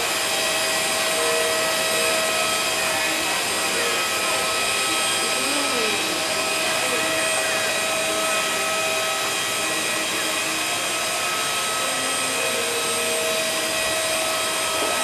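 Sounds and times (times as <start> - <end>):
jet turbine running: 0.0 - 15.0.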